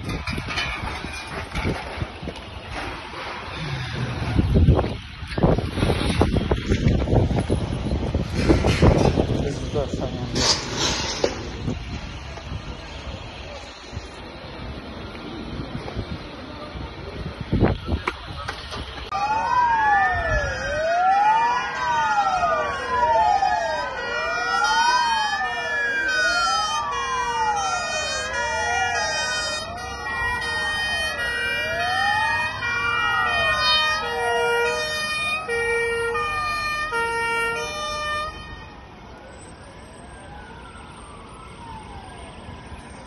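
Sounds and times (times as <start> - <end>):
emergency sirens wailing: 0.0 - 43.0.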